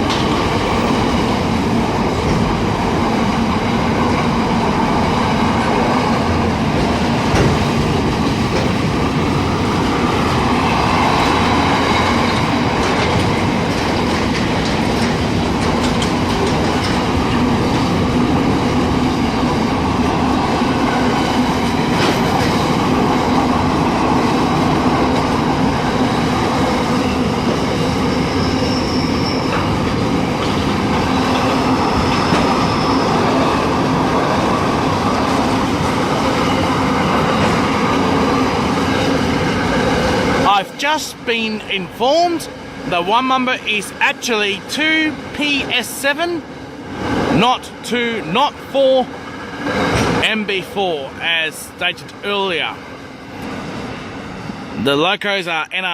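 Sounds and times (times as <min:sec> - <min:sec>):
freight train wheels rumbling on rail: 0:00.0 - 0:55.9.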